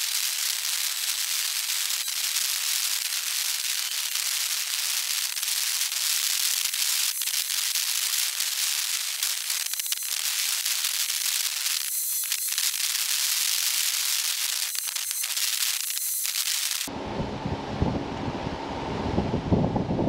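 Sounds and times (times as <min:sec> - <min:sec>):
high-pitched crackling hiss: 0:00.0 - 0:16.9.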